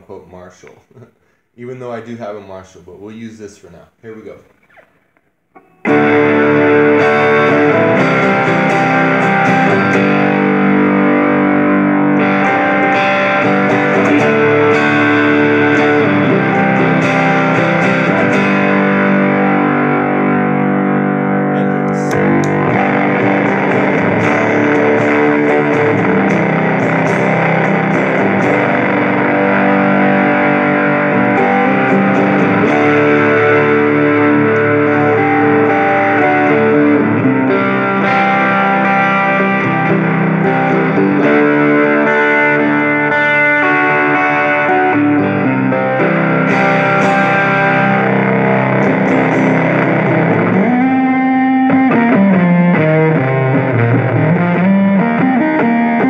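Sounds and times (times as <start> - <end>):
distorted electric guitar chords: 4.4 - 56.0.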